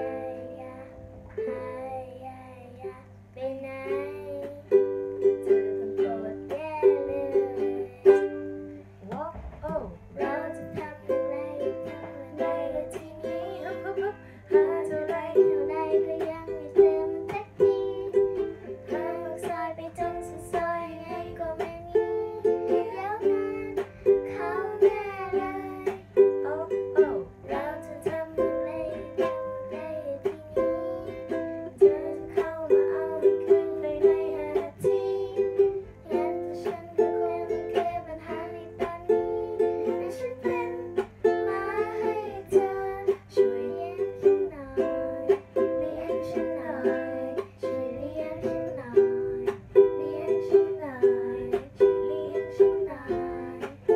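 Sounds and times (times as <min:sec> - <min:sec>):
girl singing: 0:00.0 - 0:53.9
strummed ukulele: 0:00.0 - 0:53.9.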